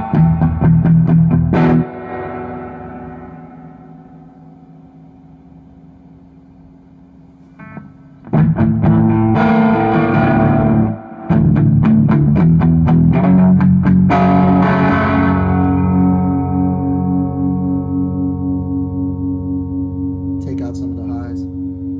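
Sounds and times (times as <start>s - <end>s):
distorted electric guitar chords: 0.0s - 21.9s.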